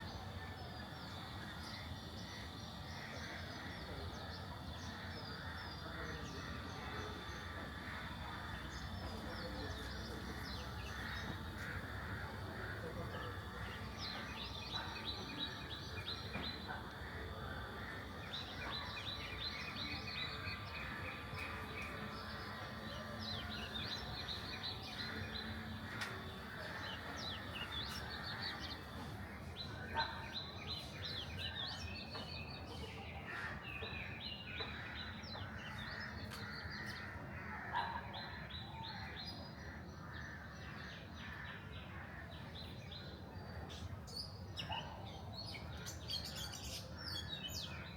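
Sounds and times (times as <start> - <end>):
birds chirping: 0.0 - 47.9
low background noise: 0.0 - 47.9.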